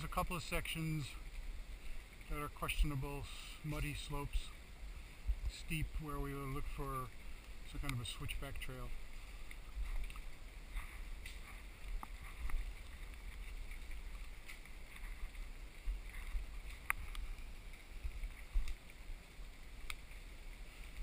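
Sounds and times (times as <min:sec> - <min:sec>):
footsteps on forest trail: 0:00.0 - 0:21.0
low rumble on microphone: 0:00.0 - 0:21.0.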